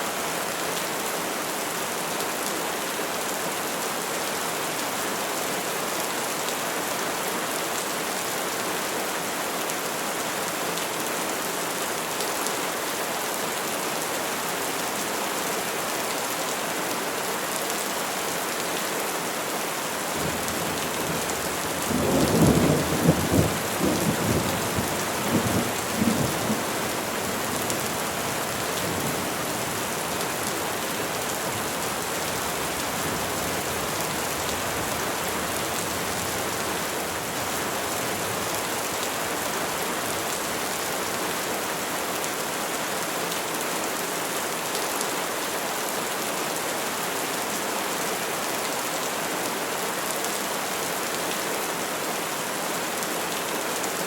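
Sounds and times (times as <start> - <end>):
rain falling on trees: 0.0 - 54.0.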